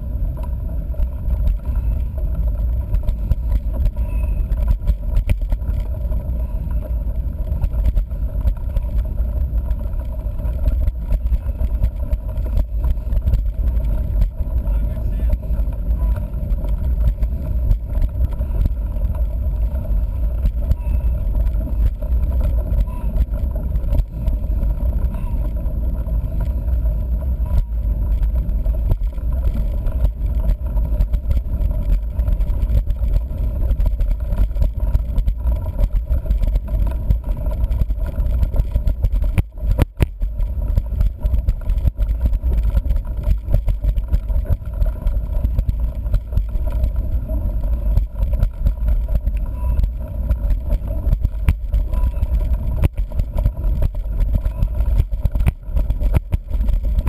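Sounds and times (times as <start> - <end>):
bike rattling and knocking: 0.0 - 57.0
bike tyres rumbling on dirt: 0.0 - 57.0
wind buffeting microphone: 0.0 - 57.0.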